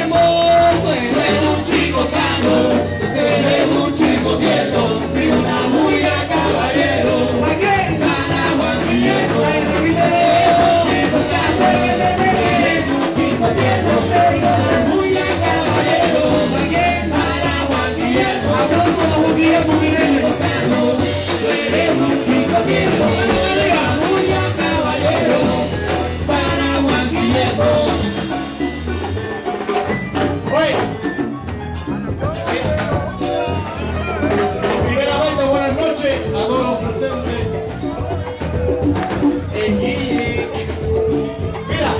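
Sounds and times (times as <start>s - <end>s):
person singing: 0.0s - 28.6s, 32.1s - 41.9s
live band dance groove: 0.0s - 41.9s.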